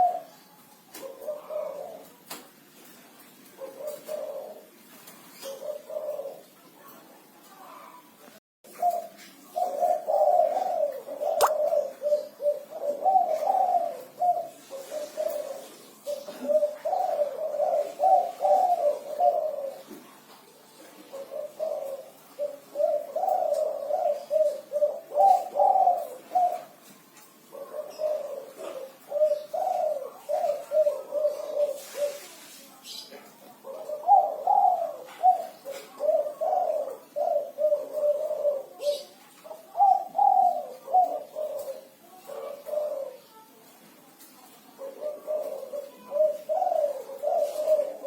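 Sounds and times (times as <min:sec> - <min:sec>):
dove cooing: 0:00.0 - 0:48.0.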